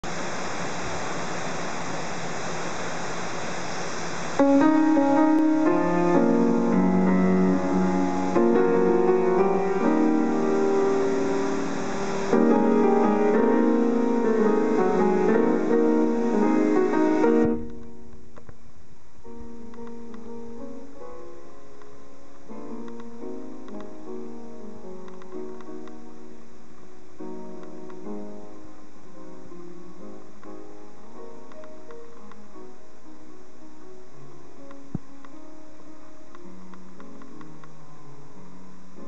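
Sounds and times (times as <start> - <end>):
grand piano chords and melody: 0.0 - 39.0
steady hiss: 0.0 - 39.0.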